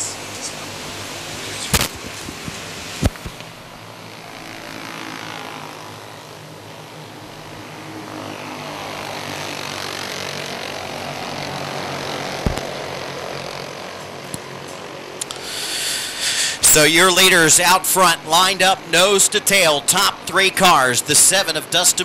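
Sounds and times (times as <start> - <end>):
kart engines racing past: 0.0 - 22.0.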